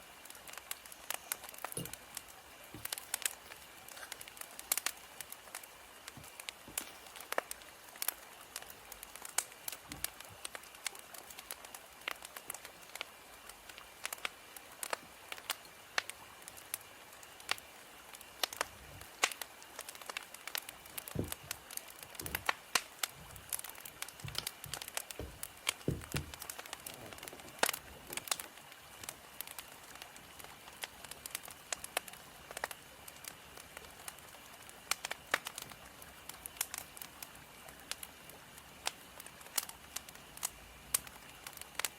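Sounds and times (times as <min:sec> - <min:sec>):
fire soft hiss: 0:00.0 - 0:41.9
wood fire crackling: 0:00.0 - 0:41.9.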